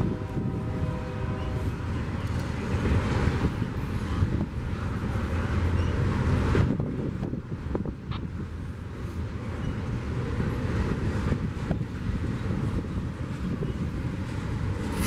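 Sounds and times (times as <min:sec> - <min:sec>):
freight train rumbling past: 0:00.0 - 0:15.0
wind on microphone: 0:00.0 - 0:15.0.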